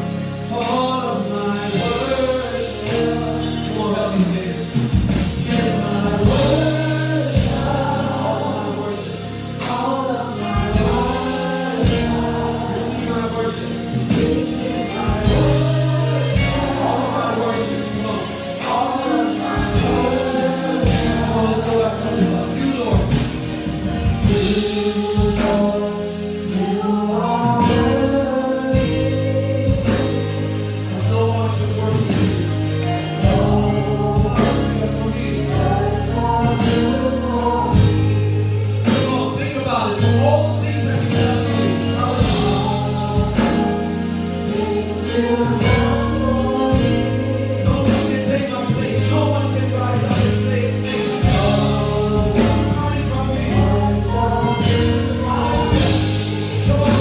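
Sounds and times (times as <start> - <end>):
choir singing: 0.0 - 57.0
regular drum beat: 0.0 - 57.0
steady bass: 0.0 - 57.0.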